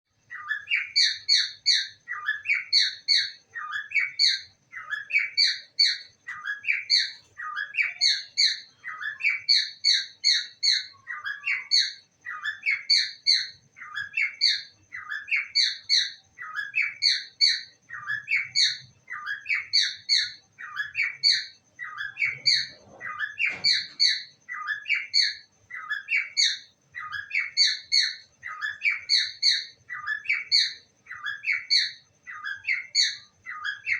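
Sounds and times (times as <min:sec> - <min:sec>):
parrot chirping: 0:00.2 - 0:33.9.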